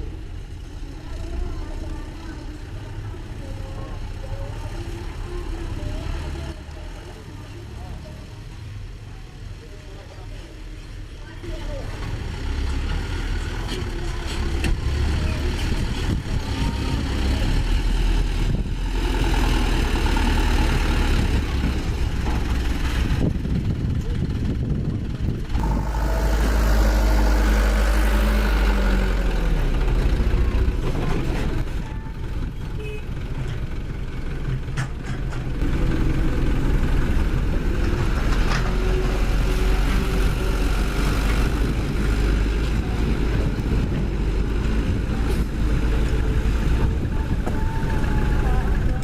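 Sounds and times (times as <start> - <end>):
heavy machinery diesel engine: 0.0 - 8.7, 9.8 - 49.0.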